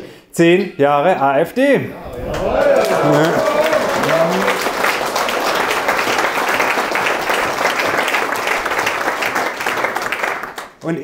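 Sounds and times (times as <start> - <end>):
audience applauding: 2.1 - 10.9.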